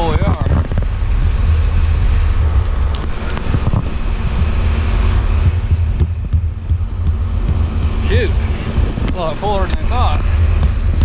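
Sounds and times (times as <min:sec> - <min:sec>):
grain bin augers droning: 0:00.0 - 0:11.0
wind buffeting microphone: 0:00.0 - 0:11.0.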